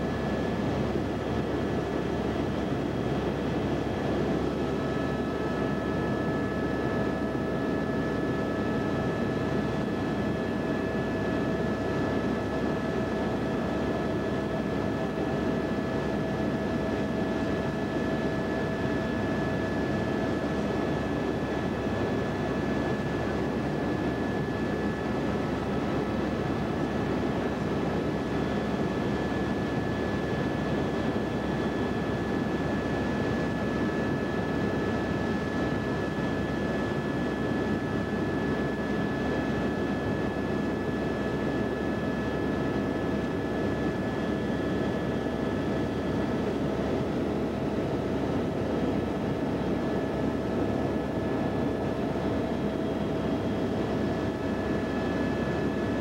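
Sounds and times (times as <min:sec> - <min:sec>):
small aircraft engine drone: 0:00.0 - 0:56.0.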